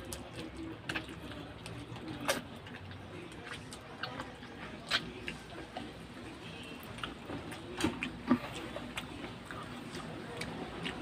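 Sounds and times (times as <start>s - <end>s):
chewing and sucking mouth sounds: 0.0s - 11.0s.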